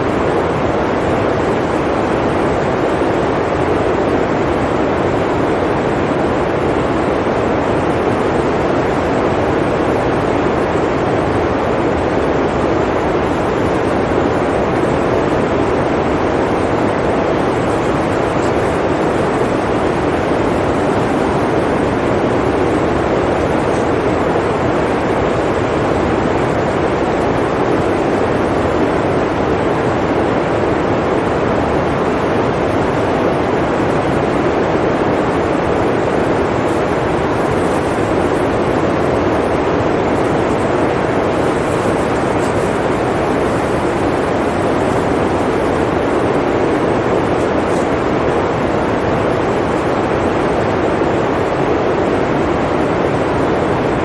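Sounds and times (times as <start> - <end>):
blizzard wind rushing: 0.0 - 54.0.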